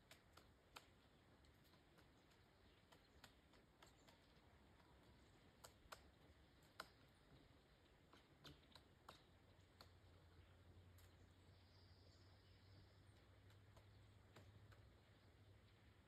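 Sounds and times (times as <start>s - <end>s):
woodpecker knocking on log: 0.0s - 11.2s, 13.1s - 15.3s.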